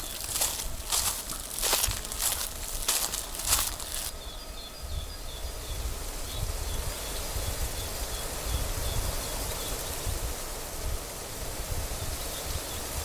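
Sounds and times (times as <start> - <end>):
steady outdoor hiss: 0.0 - 13.0
wind buffeting microphone: 0.0 - 13.0.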